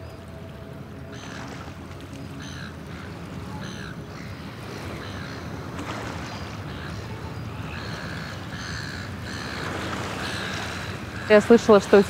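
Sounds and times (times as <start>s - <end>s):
birds calling: 1.0s - 12.0s.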